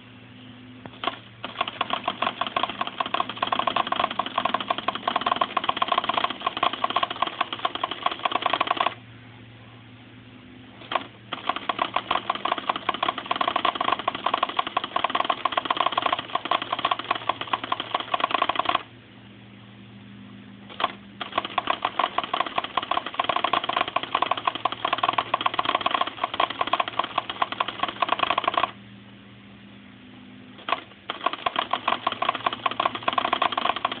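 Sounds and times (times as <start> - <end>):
low steady hum: 0.0 - 34.0
pen printer rattling: 0.9 - 9.0, 10.8 - 18.9, 20.7 - 28.8, 30.6 - 34.0.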